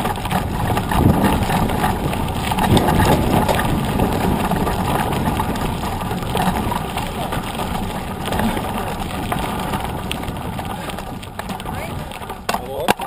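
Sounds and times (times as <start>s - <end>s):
bike tyre rumbling on gravel: 0.0s - 13.0s
wind buffeting microphone: 0.0s - 13.0s.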